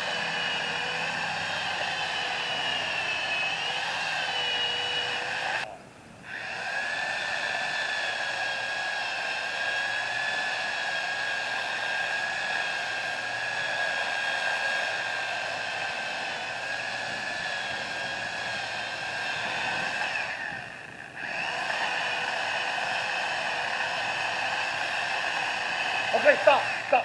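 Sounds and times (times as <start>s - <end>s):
chainsaw cutting tree: 0.0s - 27.0s.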